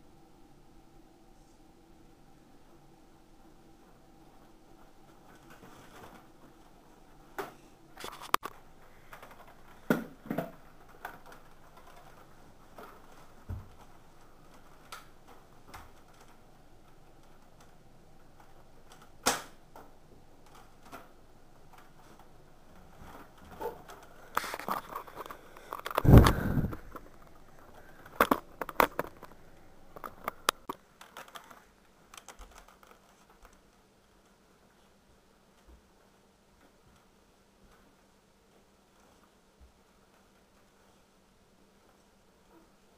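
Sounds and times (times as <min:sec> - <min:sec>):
rustling: 0:04.3 - 0:42.9.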